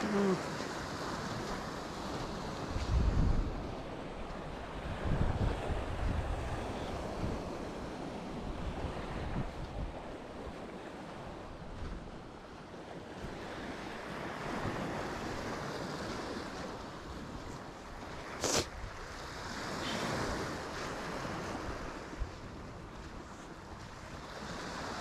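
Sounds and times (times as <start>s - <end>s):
sea waves washing ashore: 0.0s - 25.0s
wind buffeting microphone: 0.8s - 25.0s.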